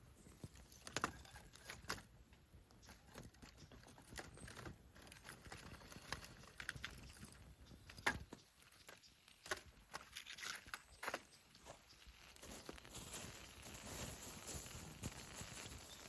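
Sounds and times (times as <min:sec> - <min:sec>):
campfire crackling and popping: 0:00.2 - 0:16.0.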